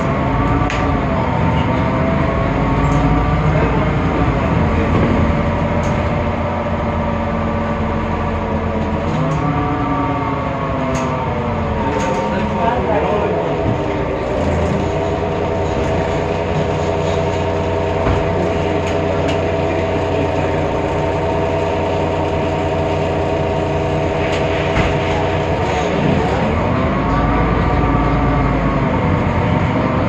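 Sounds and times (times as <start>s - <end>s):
bus drive whine: 0.0s - 30.0s
diesel engine rumble: 0.0s - 30.0s.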